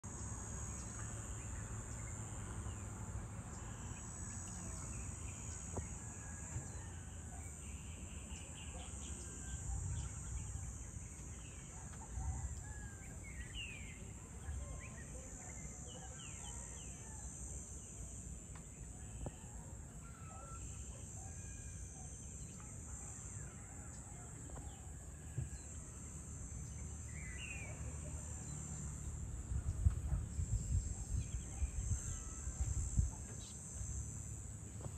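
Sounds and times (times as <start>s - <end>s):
insects droning: 0.0s - 34.9s.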